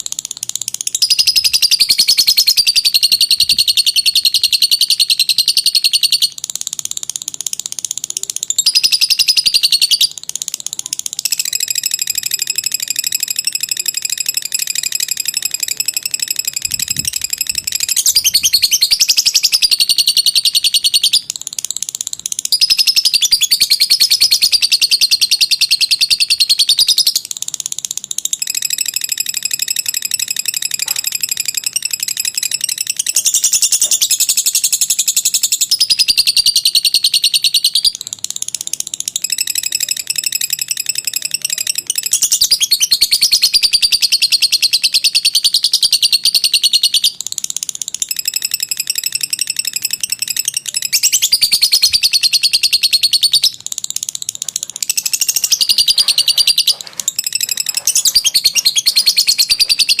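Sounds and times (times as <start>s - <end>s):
lovebird chattering trill: 0.0s - 60.0s.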